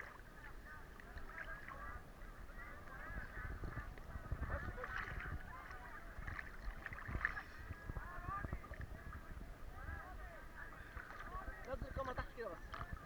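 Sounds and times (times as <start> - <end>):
water rumble: 0.0 - 13.0
wind on microphone: 1.6 - 13.0.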